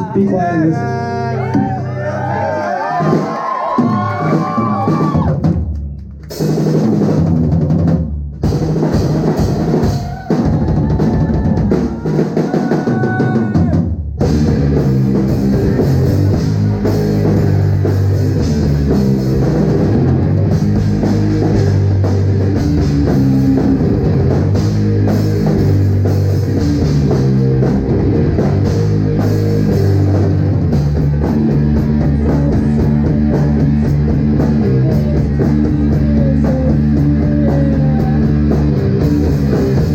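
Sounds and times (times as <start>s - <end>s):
rock band playing: 0.0s - 39.9s
bass drum: 0.8s - 39.9s.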